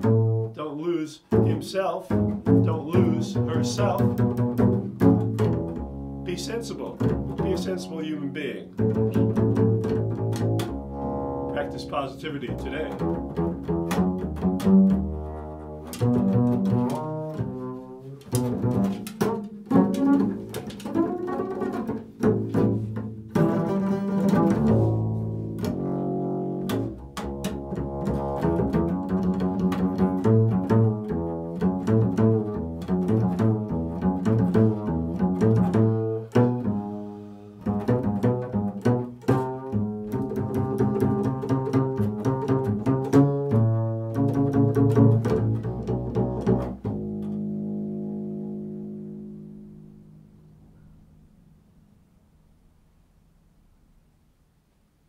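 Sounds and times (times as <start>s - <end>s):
double bass plucked: 0.0s - 55.0s.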